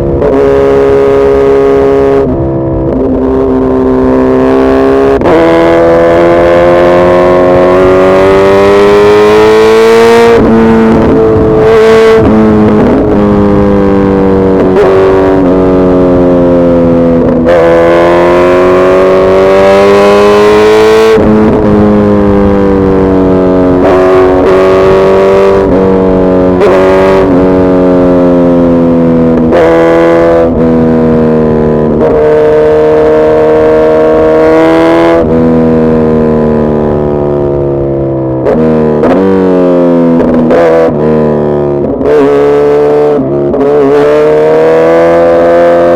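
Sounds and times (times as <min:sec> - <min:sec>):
motorcycle engine running hard: 0:00.0 - 0:45.9.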